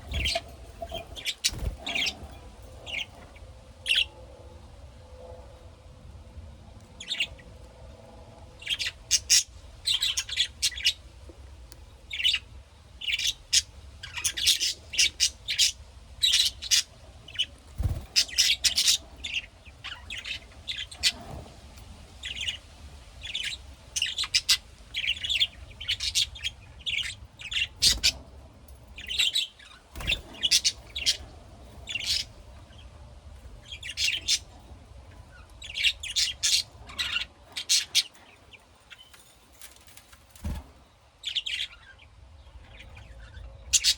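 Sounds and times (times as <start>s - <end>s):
lovebirds chirping and squawking: 0.0s - 4.2s, 7.0s - 7.5s, 8.6s - 43.9s.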